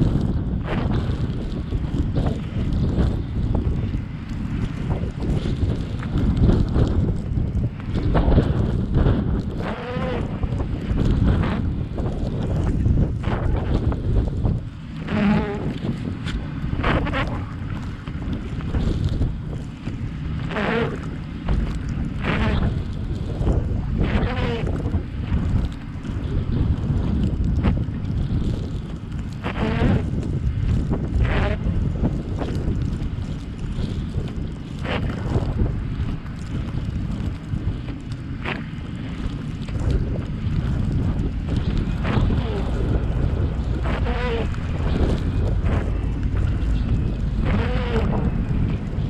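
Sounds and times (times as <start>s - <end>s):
road and wind rumble: 0.0s - 49.0s.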